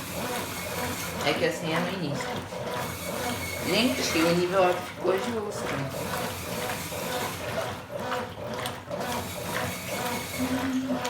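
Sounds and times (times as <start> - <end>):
washing machine agitator churning: 0.0 - 11.0.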